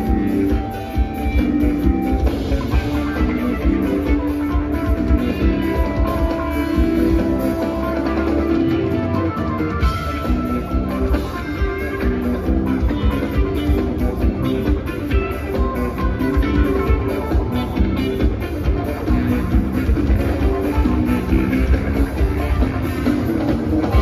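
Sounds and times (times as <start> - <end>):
drum kit beat: 0.0 - 24.0
electric bass: 0.0 - 24.0
electric guitars: 0.0 - 24.0.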